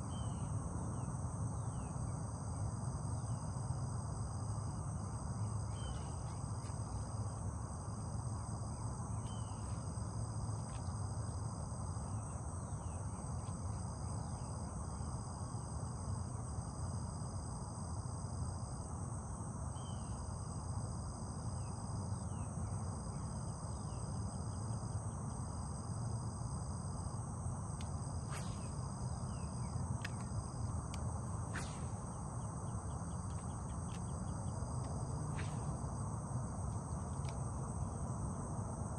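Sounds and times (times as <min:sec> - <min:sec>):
insects trilling: 0:00.0 - 0:20.6, 0:21.3 - 0:38.9.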